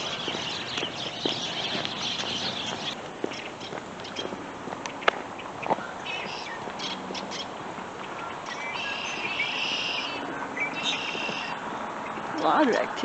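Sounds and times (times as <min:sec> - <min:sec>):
birds chirping and chattering: 0:00.0 - 0:13.0.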